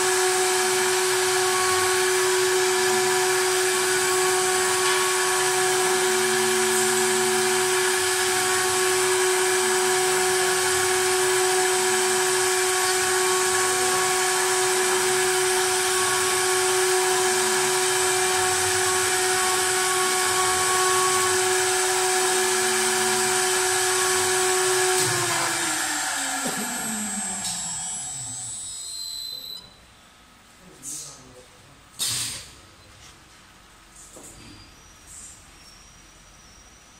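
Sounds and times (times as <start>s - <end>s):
carving spindle whine: 0.0s - 29.7s.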